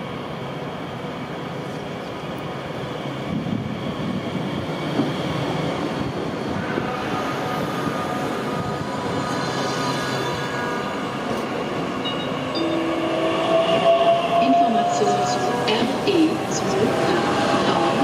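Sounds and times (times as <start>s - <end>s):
train whine: 0.0s - 18.0s
train wheels rumbling: 0.9s - 18.0s.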